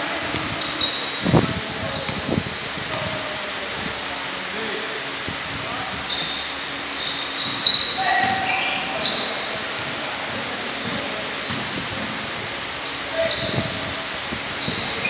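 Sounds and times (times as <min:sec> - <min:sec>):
shoes squeaking on hardwood court: 0:00.1 - 0:15.0.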